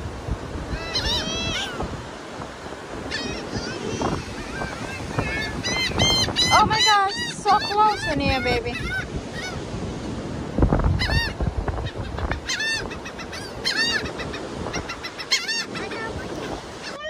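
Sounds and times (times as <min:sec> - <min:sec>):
gulls calling: 0:00.0 - 0:17.0
wind rumble on microphone: 0:00.0 - 0:17.0.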